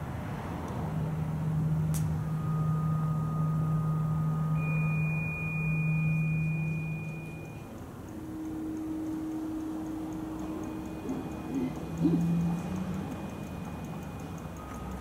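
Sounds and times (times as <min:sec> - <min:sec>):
low electronic hum: 0:00.0 - 0:15.0
high pure tones: 0:00.8 - 0:15.0.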